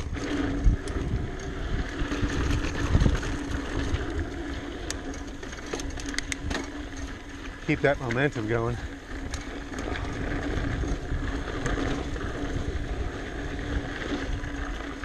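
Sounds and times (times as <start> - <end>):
wind buffeting microphone: 0.0 - 14.9
bike rattles and knocks: 0.0 - 15.0
bike tyres rolling on dirt: 0.0 - 15.0.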